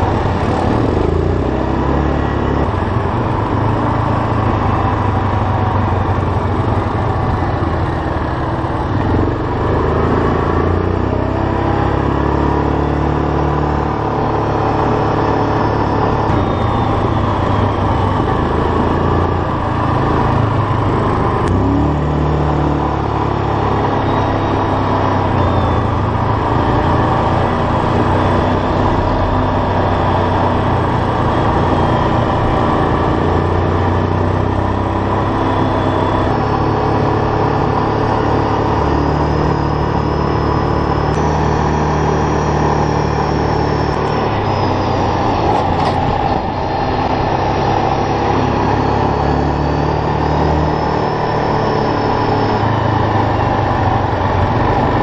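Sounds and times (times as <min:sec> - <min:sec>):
atv engine running: 0:00.0 - 0:55.0
wind and road noise: 0:00.0 - 0:55.0.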